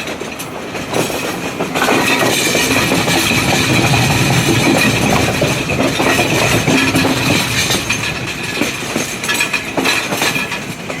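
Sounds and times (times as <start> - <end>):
train rolling noise: 0.0 - 11.0
wheels clanking over track: 0.0 - 11.0.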